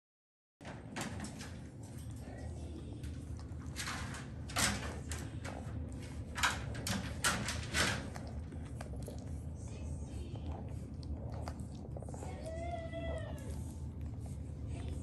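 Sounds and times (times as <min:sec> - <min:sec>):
steady low hum: 0:00.6 - 0:15.0
puppies snuffling and suckling: 0:01.1 - 0:15.0.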